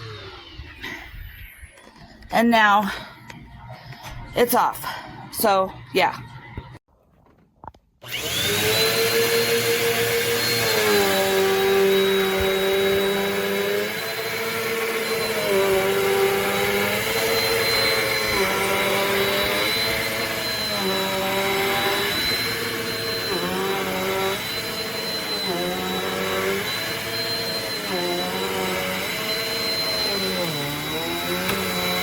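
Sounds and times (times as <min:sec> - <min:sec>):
vacuum cleaner motor whining: 0:00.0 - 0:02.3, 0:08.0 - 0:32.0.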